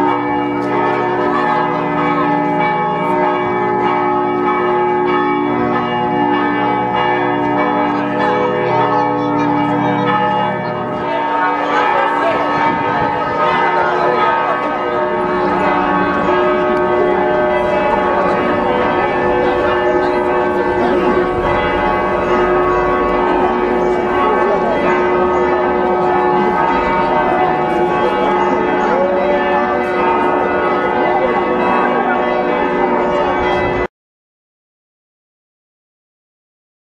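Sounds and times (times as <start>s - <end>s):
church bells ringing: 0.0s - 33.9s
crowd chattering: 0.0s - 33.9s.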